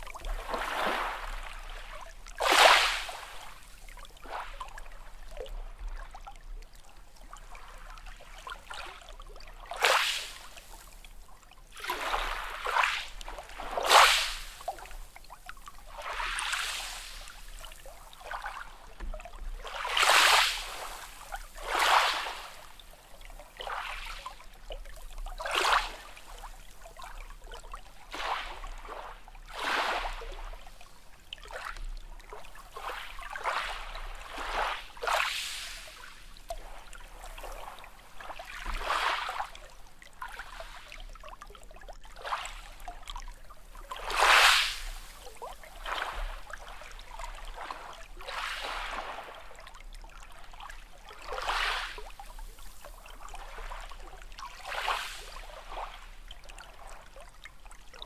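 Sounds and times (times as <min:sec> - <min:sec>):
small waves lapping and splashing: 0:00.0 - 0:58.0.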